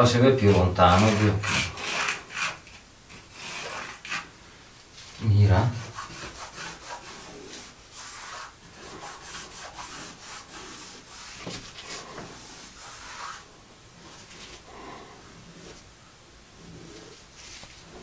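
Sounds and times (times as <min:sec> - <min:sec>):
hand scraping across wall: 0:00.0 - 0:04.4, 0:05.0 - 0:15.9, 0:16.6 - 0:18.0.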